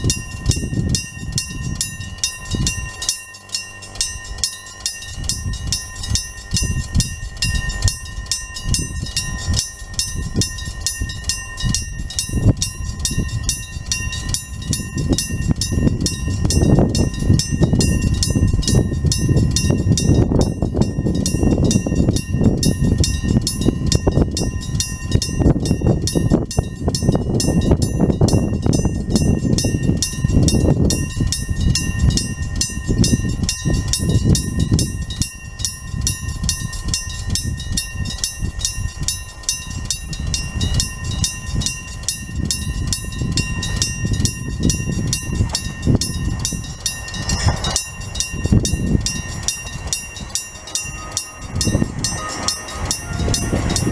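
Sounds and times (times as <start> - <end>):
level crossing alarm bell ringing: 0.0 - 53.9
train rumbling past: 0.0 - 53.9.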